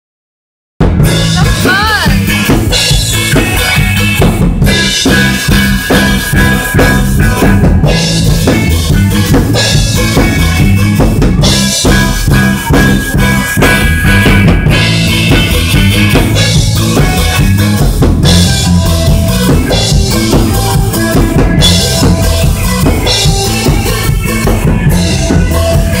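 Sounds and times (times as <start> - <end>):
drum kit beat: 0.8 - 26.0
electric guitar note bending: 0.8 - 26.0
live rock band playing: 0.8 - 26.0.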